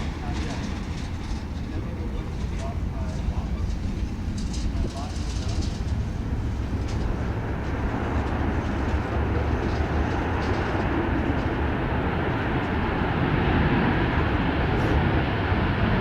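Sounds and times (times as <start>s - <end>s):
jet aircraft engines rumbling: 0.0s - 16.0s.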